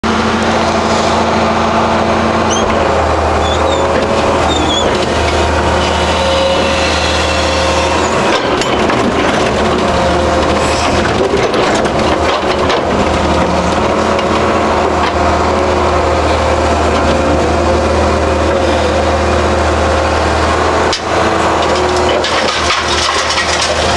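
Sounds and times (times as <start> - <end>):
excavator diesel engine and hydraulics: 0.0 - 23.9.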